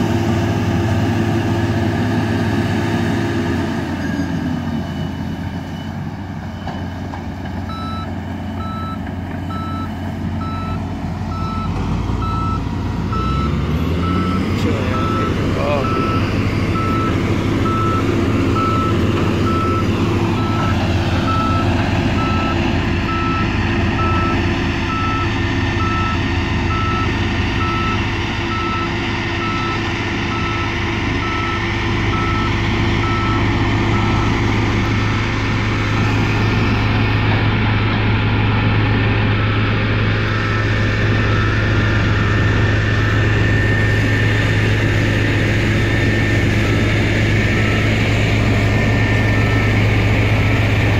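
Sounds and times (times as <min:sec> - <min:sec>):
diesel engines running: 0:00.0 - 0:50.9
reversing alarm beeping: 0:03.8 - 0:37.2, 0:37.8 - 0:50.7.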